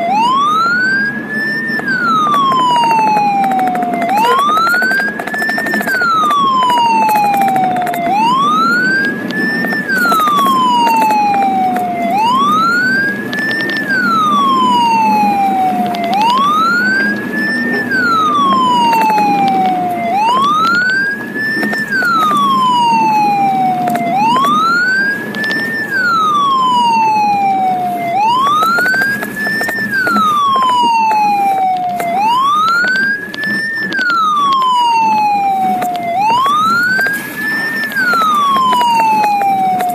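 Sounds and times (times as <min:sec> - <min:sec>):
ambulance siren wailing: 0:00.0 - 0:39.9
vehicle driving rumble: 0:00.0 - 0:39.9.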